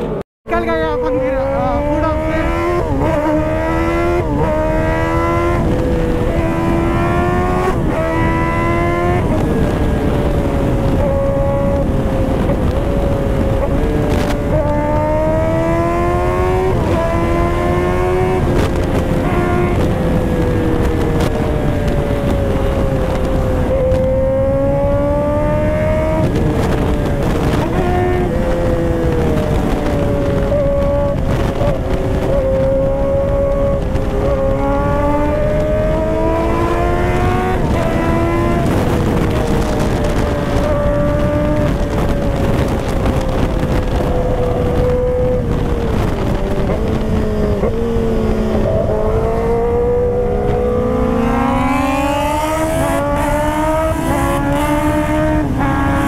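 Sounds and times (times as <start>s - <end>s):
motorcycle engine accelerating: 0.0s - 56.0s
wind noise: 0.0s - 56.0s.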